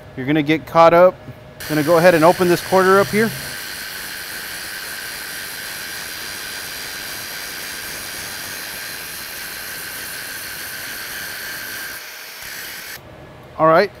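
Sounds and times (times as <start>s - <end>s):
angle grinder grinding metal: 1.6s - 13.0s.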